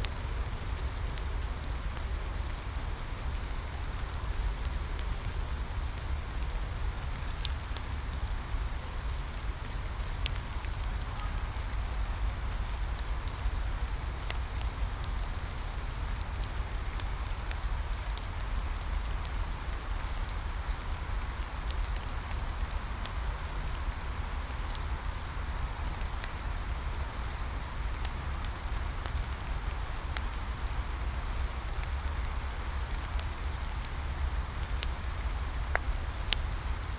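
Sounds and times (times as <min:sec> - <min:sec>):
crackling bonfire: 0:00.0 - 0:36.9
steady rain falling: 0:00.0 - 0:36.9.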